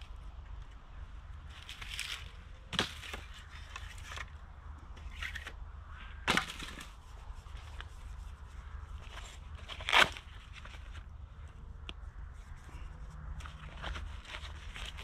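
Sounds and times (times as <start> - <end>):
crackling and rustling: 0.0 - 15.0.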